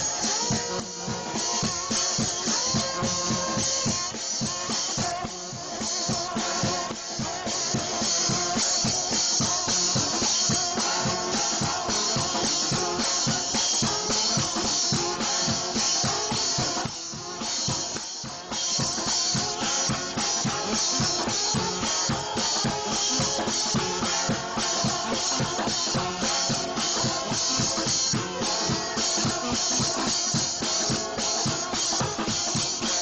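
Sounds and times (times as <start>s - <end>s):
brass ensemble playing hymn tune: 0.0s - 33.0s
drum kit driving beat: 0.0s - 33.0s.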